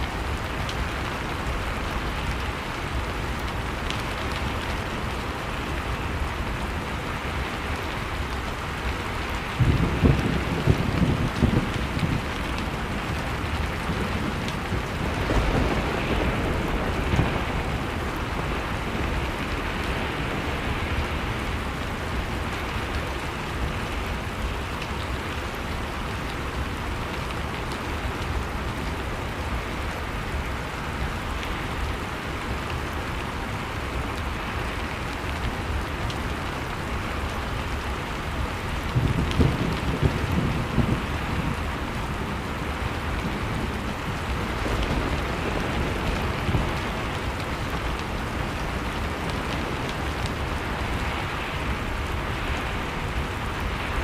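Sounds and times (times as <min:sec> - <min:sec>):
blizzard wind: 0:00.0 - 0:54.0
low rumbling wind gusts: 0:00.0 - 0:54.0
wood fire crackling: 0:00.0 - 0:54.0.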